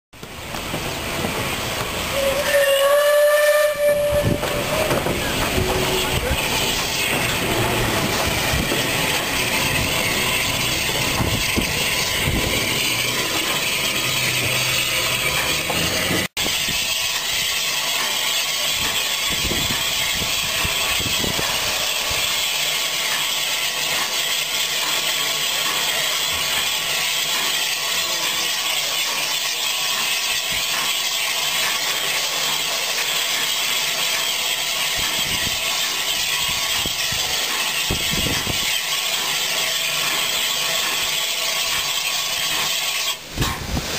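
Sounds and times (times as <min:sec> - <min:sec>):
steam hissing: 0:00.2 - 0:43.9
steam locomotive rumble: 0:00.2 - 0:43.9.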